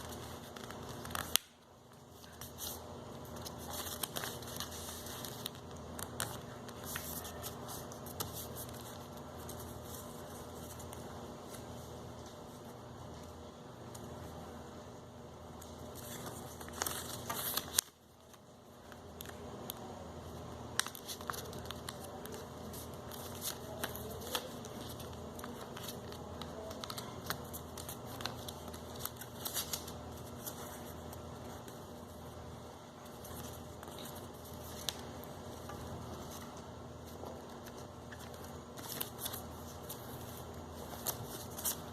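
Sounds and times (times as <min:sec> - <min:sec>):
paper crinkling and rustling: 0:00.0 - 0:14.1, 0:15.6 - 0:41.9.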